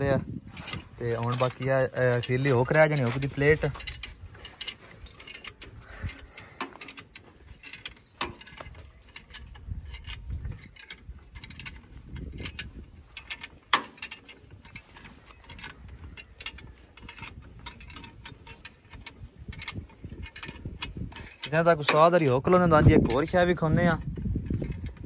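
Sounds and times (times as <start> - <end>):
spanner clinking on bolts: 0.0 - 25.0.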